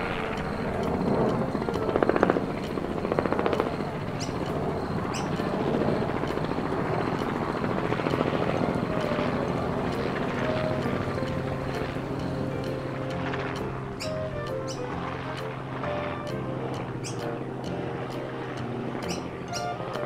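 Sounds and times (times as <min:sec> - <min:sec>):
helicopter engine drone: 0:00.0 - 0:20.0
helicopter rotor blades chopping: 0:00.0 - 0:20.0.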